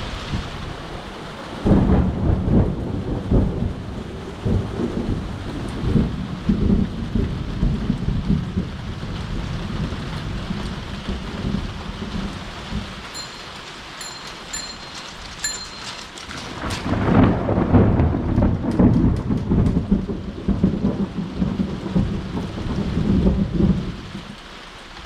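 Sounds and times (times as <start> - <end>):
thunder rumbling: 0.0 - 24.4
steady rain: 0.0 - 25.0.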